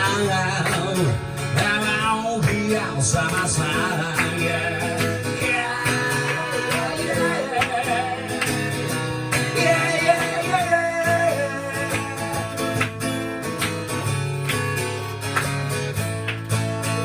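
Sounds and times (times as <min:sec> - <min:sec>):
live guitar-led song: 0:00.0 - 0:17.0.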